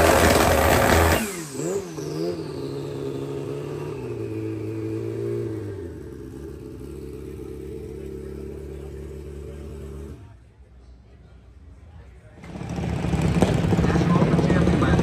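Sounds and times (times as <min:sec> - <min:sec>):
motorcycle engine revving and idling: 0:00.0 - 0:10.6, 0:12.4 - 0:15.0.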